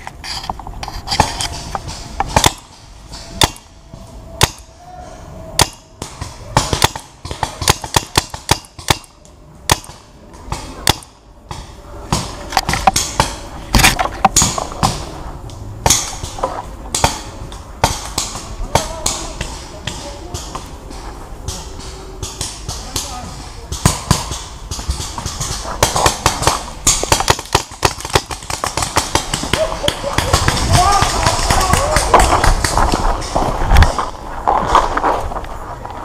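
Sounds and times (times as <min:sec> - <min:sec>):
paintball markers firing: 0:01.2 - 0:03.7, 0:05.6 - 0:15.1, 0:15.8 - 0:34.0.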